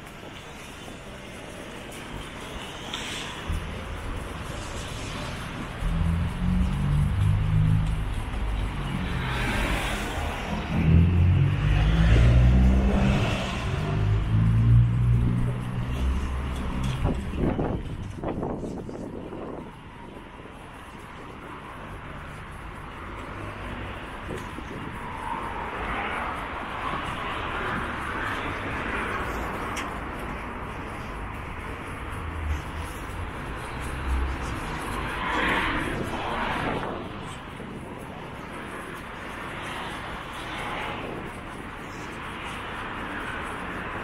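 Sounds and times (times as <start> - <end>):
passing vehicle rumble and hiss: 0.0 - 44.0.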